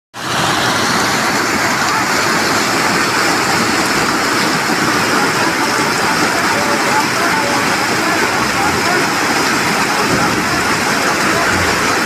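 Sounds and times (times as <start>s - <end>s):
heavy rain downpour: 0.2s - 12.0s.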